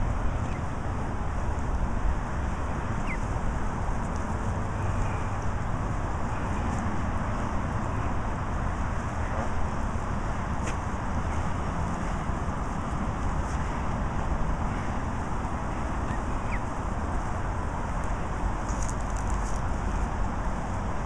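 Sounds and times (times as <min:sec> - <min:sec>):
outdoor background rumble with hiss: 0:00.0 - 0:21.0.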